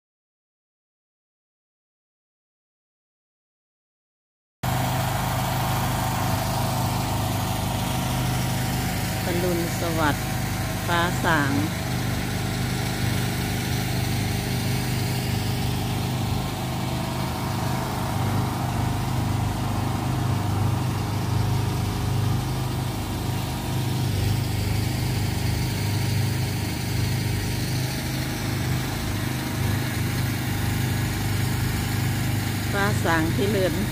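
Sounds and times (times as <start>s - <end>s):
generator engine running: 4.6s - 33.9s.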